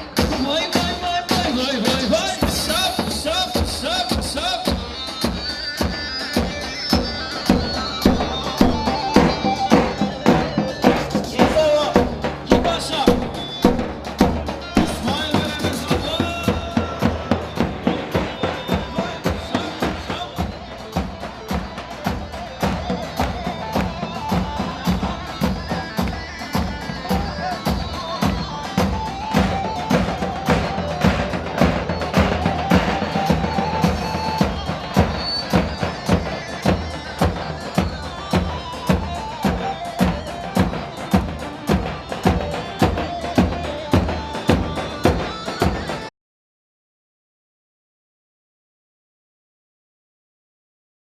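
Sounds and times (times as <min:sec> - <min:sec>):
keyboard melody: 0:00.0 - 0:46.1
steady drum beat: 0:00.0 - 0:46.1.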